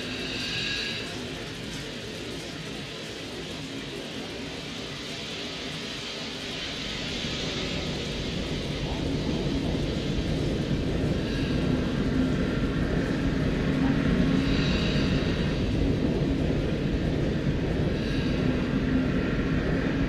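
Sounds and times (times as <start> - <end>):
city street rumble: 0.0 - 20.0.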